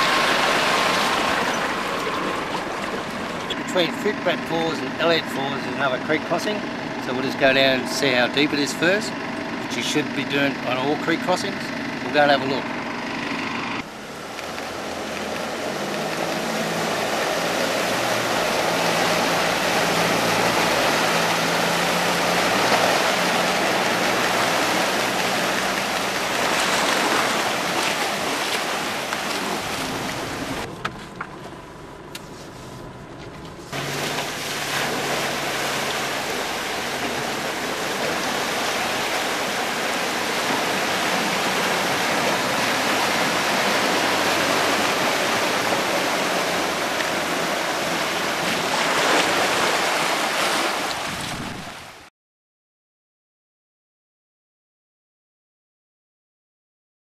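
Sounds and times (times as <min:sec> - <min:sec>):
water rushing: 0:00.0 - 0:31.4, 0:33.5 - 0:52.1
vehicle engines running: 0:00.0 - 0:49.5.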